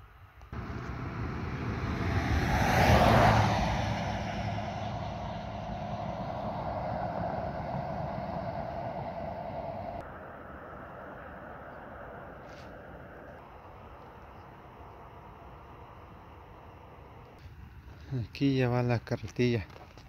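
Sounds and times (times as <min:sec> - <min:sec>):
vehicle passing on asphalt: 0:00.5 - 0:17.7.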